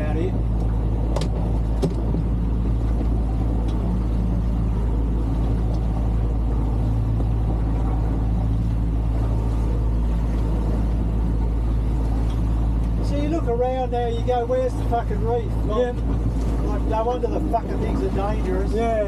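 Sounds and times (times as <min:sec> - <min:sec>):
boat engine droning: 0:00.0 - 0:19.0
wind and water rumble: 0:00.0 - 0:19.0.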